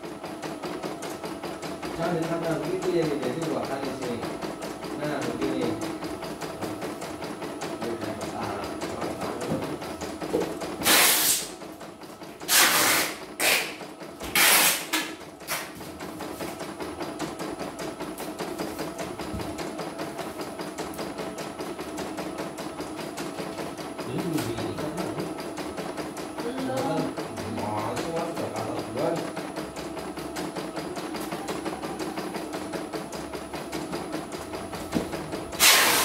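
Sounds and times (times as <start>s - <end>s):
embroidery machine stitching: 0.0s - 36.0s.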